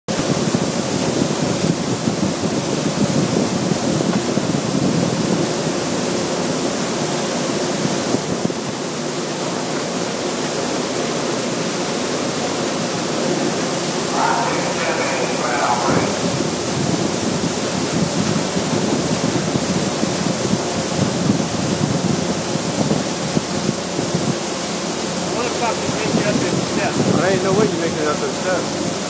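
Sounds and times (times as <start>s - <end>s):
roar of wind-driven spray: 0.1s - 29.0s.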